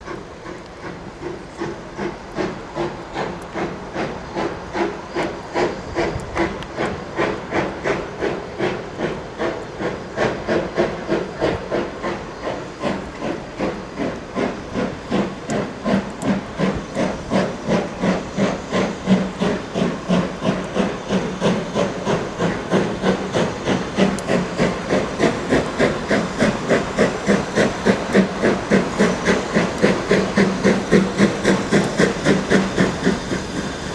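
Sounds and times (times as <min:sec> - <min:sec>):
hiss of steam: 0:00.0 - 0:33.9
steam locomotive exhaust chuffing: 0:00.0 - 0:33.9.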